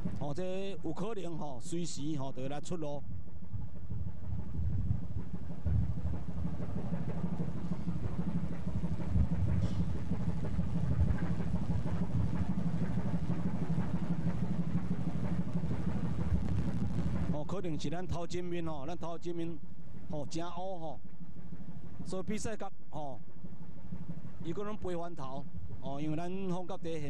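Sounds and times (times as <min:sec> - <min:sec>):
low rumble with surges: 0:00.0 - 0:27.0.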